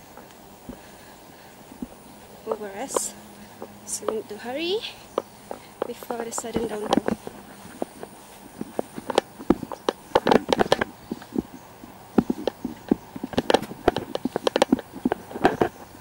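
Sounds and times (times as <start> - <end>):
footsteps on grass: 0.0 - 16.0.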